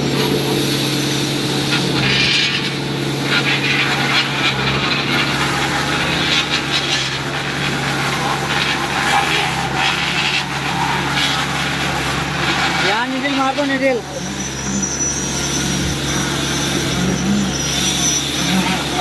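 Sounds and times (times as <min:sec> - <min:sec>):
machinery engine humming: 0:00.0 - 0:19.0.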